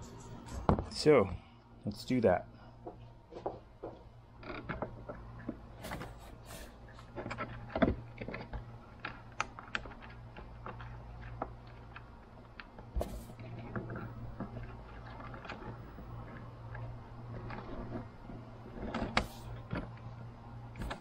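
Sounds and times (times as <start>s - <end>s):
wires clicking and rustling: 2.9s - 21.0s.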